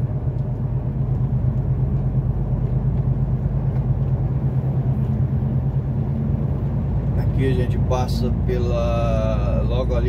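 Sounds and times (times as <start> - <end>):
truck diesel engine drone: 0.0 - 10.0.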